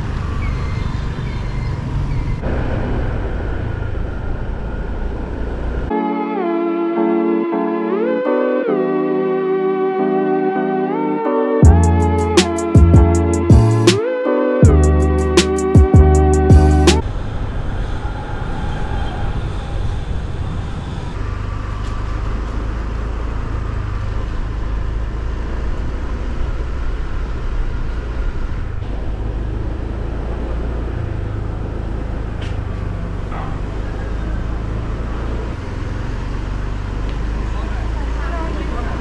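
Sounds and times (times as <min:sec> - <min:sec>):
road noise: 0:00.0 - 0:39.0.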